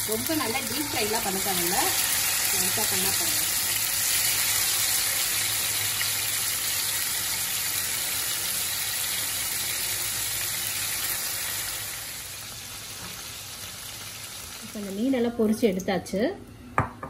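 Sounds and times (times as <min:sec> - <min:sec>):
fish sizzling in hot oil: 0:00.0 - 0:15.9.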